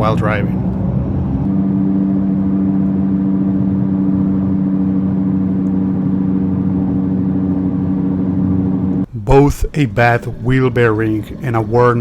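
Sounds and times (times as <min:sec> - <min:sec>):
wheel bearing humming: 0:00.0 - 0:12.0.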